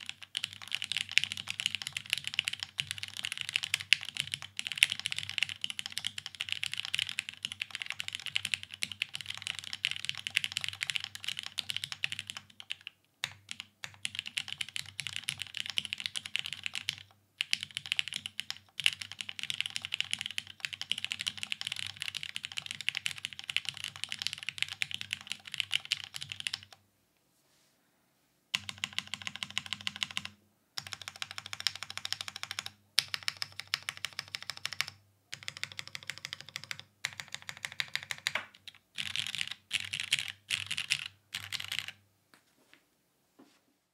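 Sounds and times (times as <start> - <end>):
fast typing on mechanical keyboard: 0.0 - 26.8, 28.5 - 42.0.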